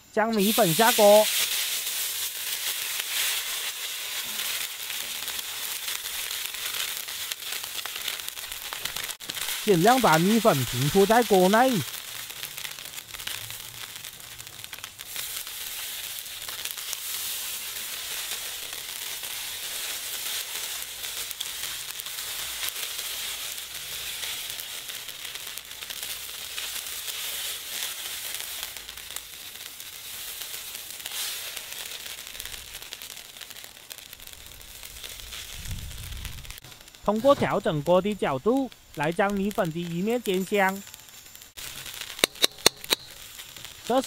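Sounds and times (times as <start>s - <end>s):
noodles sizzling in hot oil: 0.0s - 44.0s.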